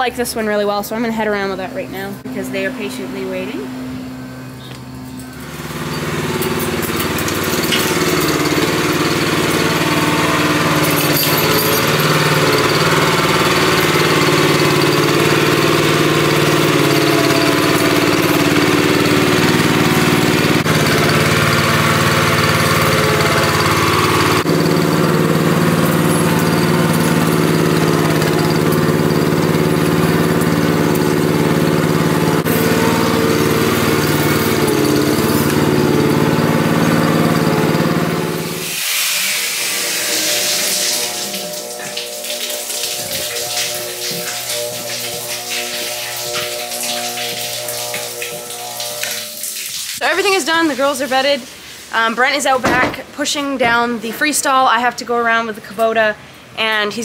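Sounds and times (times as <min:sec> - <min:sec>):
small gasoline engine running: 0:04.9 - 0:52.2.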